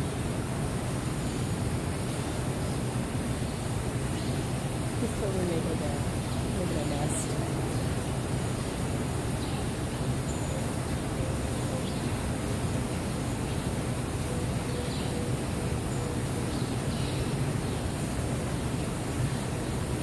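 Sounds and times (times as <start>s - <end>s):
indoor room hum and hiss: 0.0s - 20.0s.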